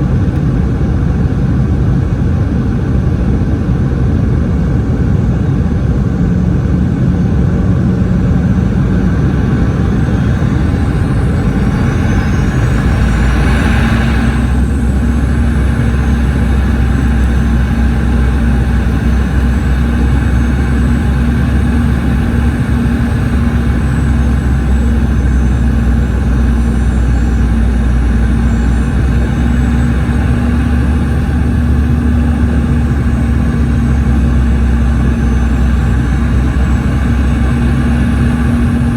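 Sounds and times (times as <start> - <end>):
airliner cabin engine drone: 0.0 - 38.9
high engine whine sweeping upward: 5.9 - 38.9.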